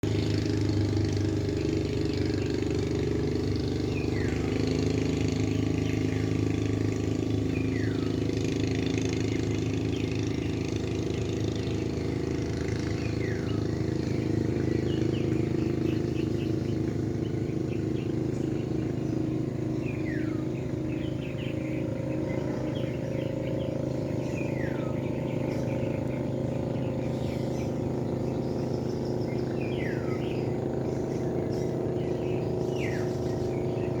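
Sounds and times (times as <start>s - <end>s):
motor running steadily: 0.0s - 34.0s.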